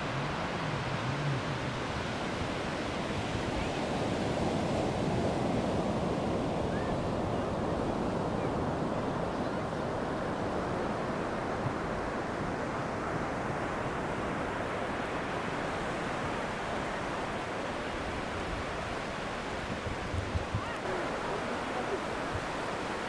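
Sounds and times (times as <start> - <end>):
ocean waves breaking on sand: 0.0 - 23.0
wind on microphone: 0.0 - 23.0.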